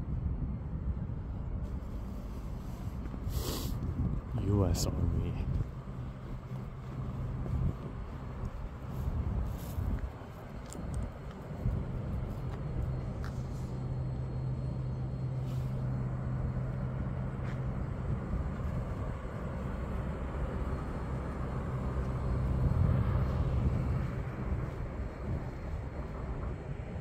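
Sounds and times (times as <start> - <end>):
road noise: 0.0 - 27.0
vehicle engine hum: 0.0 - 27.0.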